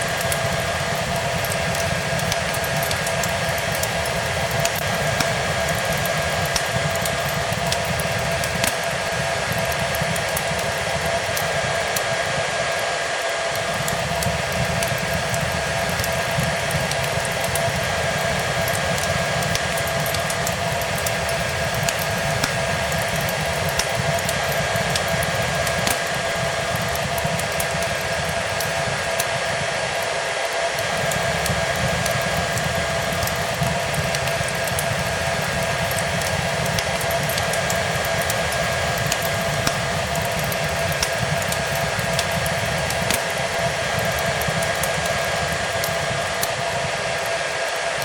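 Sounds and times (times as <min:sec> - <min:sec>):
fireplace crackling: 0:00.0 - 0:48.0
hair dryer blowing: 0:00.0 - 0:48.0.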